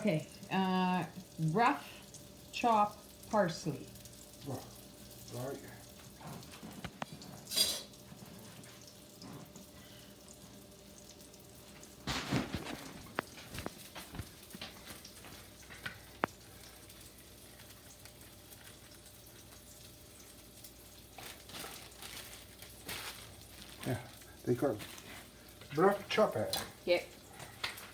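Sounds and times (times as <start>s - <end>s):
burgers sizzling in a pan: 0.0s - 27.9s.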